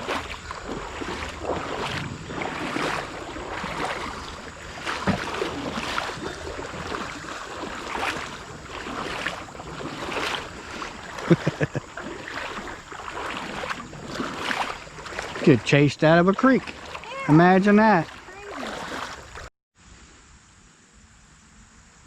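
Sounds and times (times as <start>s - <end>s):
footsteps splashing through water: 0.0s - 19.5s.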